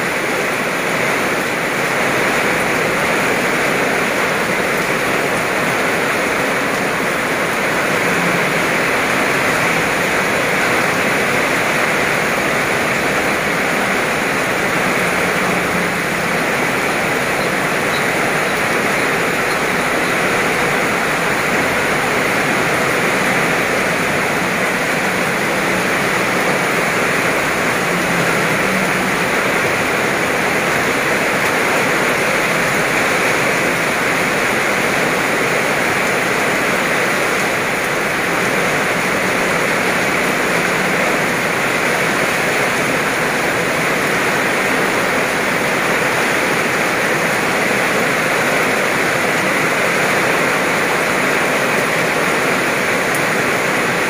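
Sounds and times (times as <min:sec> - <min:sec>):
heavy rain on wet road: 0:00.0 - 0:54.0.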